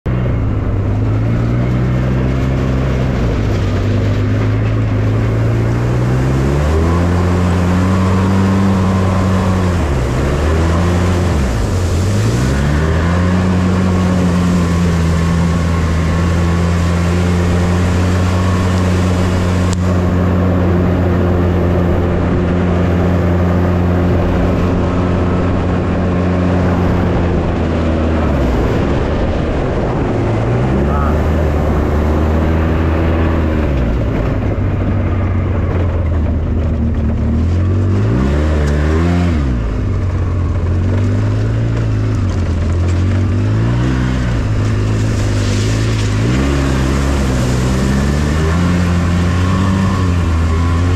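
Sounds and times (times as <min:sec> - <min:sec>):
twin-cylinder engine revving: 0:00.0 - 0:50.9.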